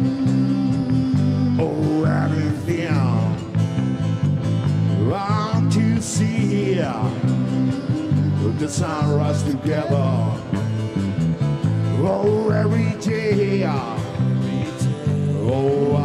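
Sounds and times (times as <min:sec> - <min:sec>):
man singing: 0:00.0 - 0:03.6, 0:04.9 - 0:10.8, 0:11.8 - 0:16.0
acoustic guitar: 0:00.0 - 0:16.0
electric bass guitar: 0:00.0 - 0:16.0.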